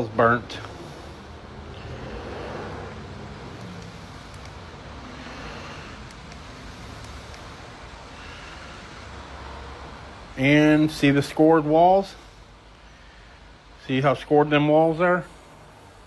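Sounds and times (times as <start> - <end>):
background rumble and hiss: 0.0 - 16.0.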